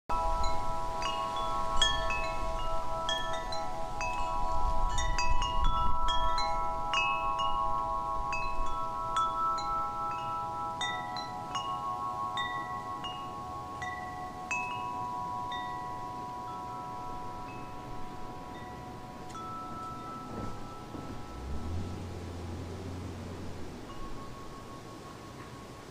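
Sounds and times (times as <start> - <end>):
chimes ringing: 0.1 - 25.9.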